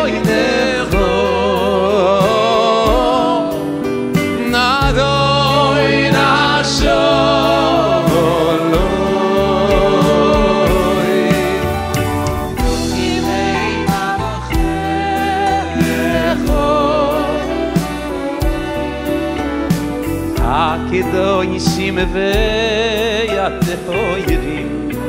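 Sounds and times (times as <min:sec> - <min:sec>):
bass notes: 0:00.0 - 0:25.0
person singing: 0:00.0 - 0:25.0.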